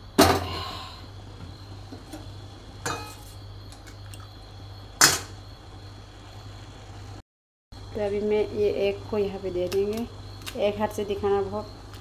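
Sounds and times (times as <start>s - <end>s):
steady low hum: 0.0s - 7.2s, 7.8s - 12.0s.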